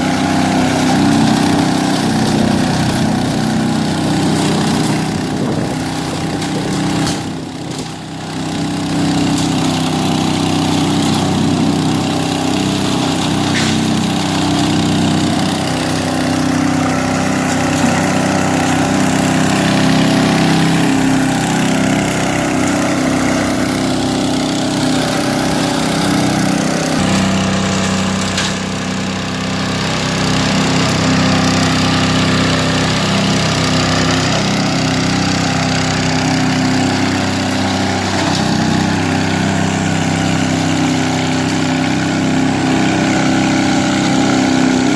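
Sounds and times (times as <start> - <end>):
leaf vacuum engine droning: 0.0 - 44.9.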